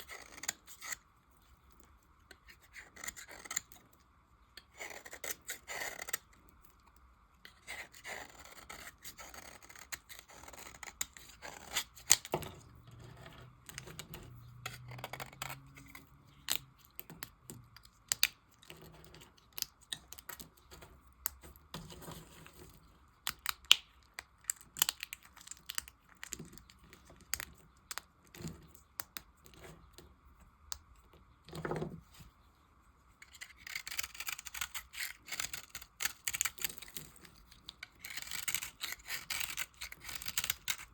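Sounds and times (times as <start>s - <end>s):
knife cutting soap: 0.0s - 32.1s, 33.2s - 40.9s.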